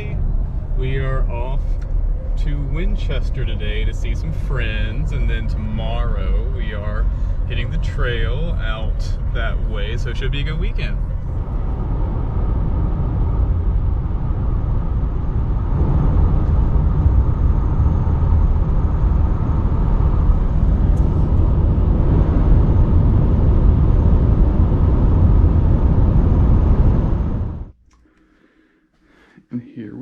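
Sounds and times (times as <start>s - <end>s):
car driving at speed: 0.0s - 27.8s
road and wind noise: 0.0s - 27.8s.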